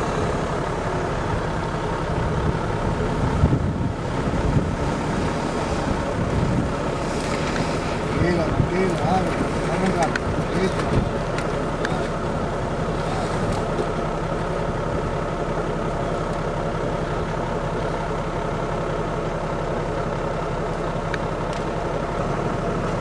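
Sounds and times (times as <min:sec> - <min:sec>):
off-road engine under load: 0:00.0 - 0:23.0.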